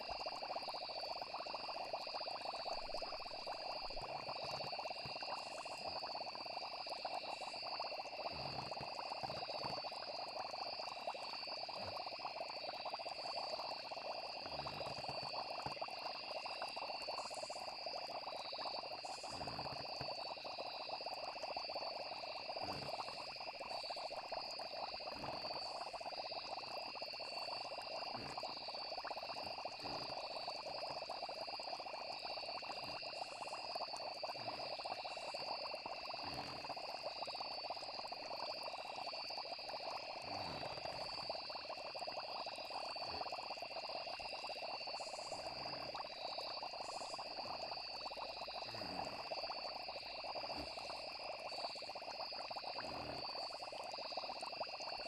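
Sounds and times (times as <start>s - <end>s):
high trilling of frogs and insects: 0.0s - 55.0s.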